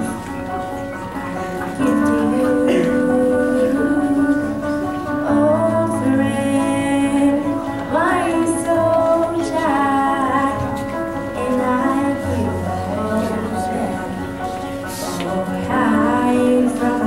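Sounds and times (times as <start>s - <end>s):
instrumental accompaniment: 0.0s - 17.0s
girl singing into microphone: 1.8s - 17.0s.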